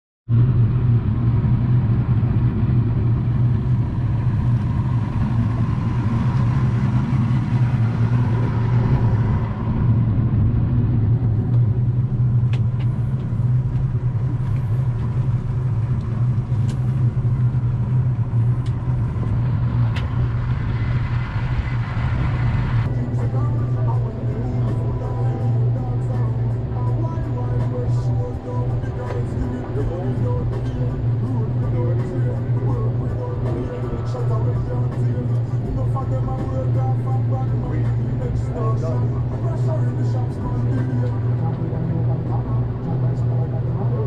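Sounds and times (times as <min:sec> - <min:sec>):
outboard boat engines droning: 0:00.3 - 0:44.0.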